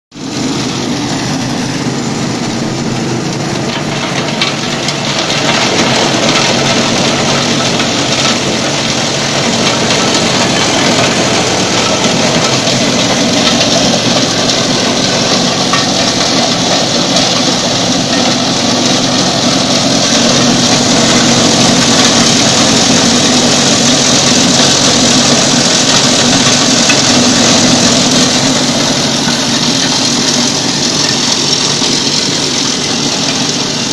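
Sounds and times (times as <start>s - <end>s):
corn grinding machine running: 0.2s - 33.9s.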